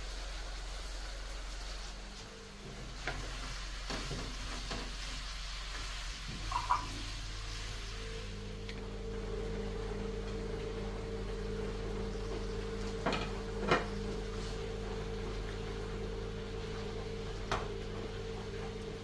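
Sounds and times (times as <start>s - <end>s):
food frying in a pan: 0.0s - 19.0s
steady hum: 0.0s - 19.0s.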